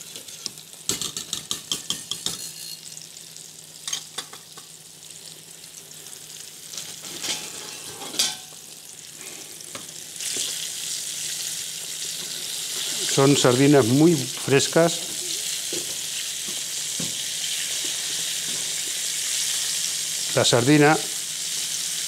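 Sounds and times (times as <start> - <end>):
fish sizzling in oil: 0.0 - 22.0.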